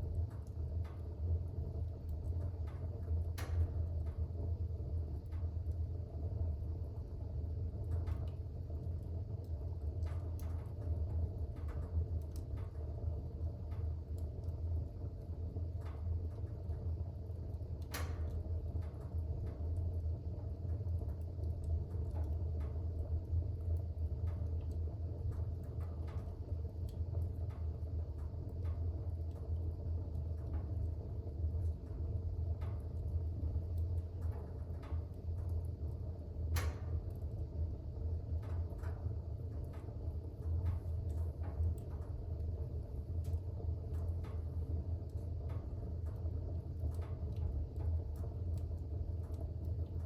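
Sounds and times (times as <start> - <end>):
fire crackling and popping: 0.0 - 50.0
fire rumbling: 0.0 - 50.0.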